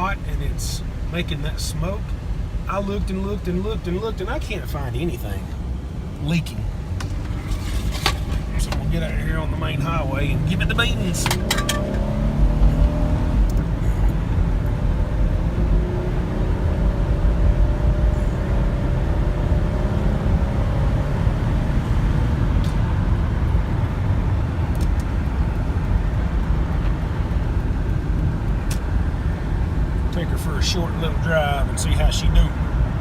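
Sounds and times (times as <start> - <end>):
minivan engine accelerating: 0.0 - 33.0.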